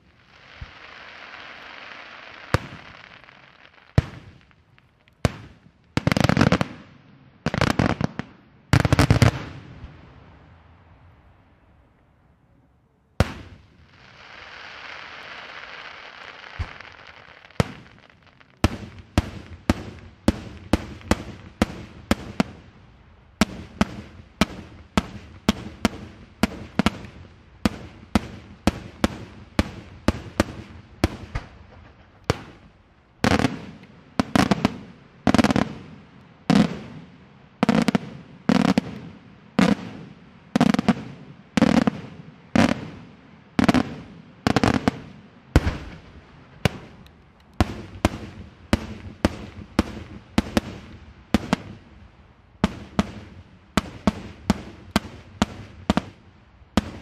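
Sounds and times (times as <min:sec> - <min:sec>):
fireworks bangs: 0:00.0 - 0:11.2, 0:13.2 - 0:22.8, 0:23.4 - 0:51.9, 0:52.6 - 0:57.0
fireworks crackling hiss: 0:00.0 - 0:11.6, 0:13.2 - 0:57.0.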